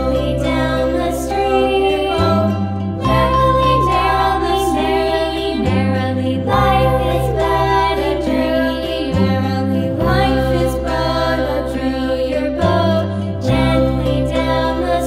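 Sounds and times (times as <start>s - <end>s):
slow tune of held notes: 0.0s - 15.0s
sustained bass: 0.0s - 15.0s.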